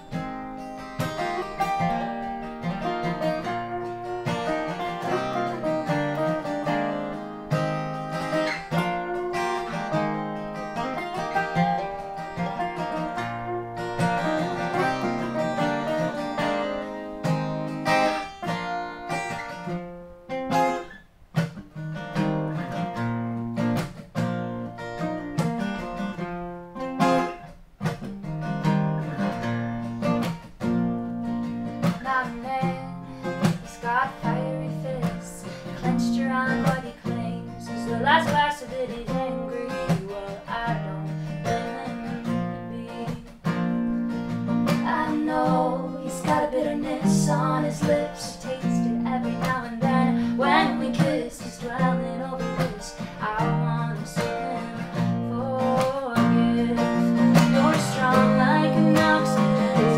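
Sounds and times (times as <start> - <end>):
acoustic guitars playing: 0.0 - 59.9.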